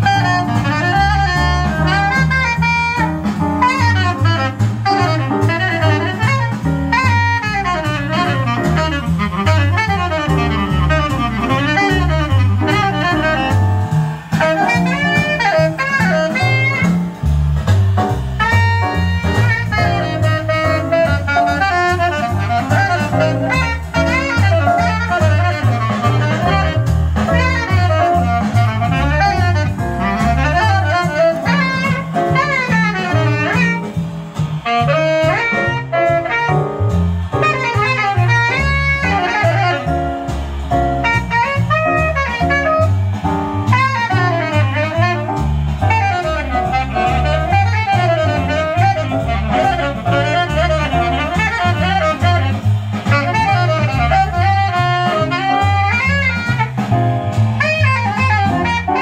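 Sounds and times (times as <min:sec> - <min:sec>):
bass line: 0:00.0 - 0:59.0
drums: 0:00.0 - 0:59.0
saxophone: 0:00.0 - 0:59.0.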